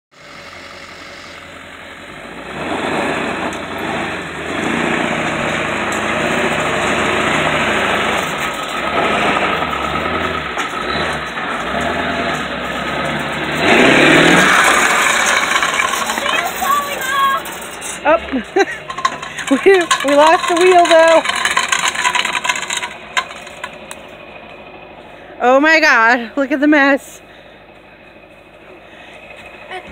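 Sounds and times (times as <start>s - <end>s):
pickup engine pulling hard: 0.1s - 29.9s.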